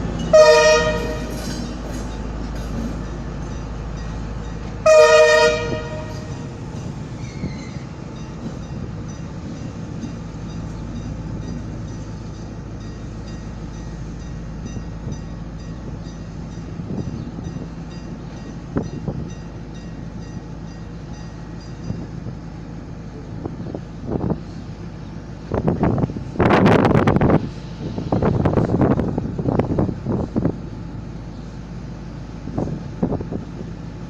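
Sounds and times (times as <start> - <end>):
diesel locomotive engine humming: 0.0 - 34.0.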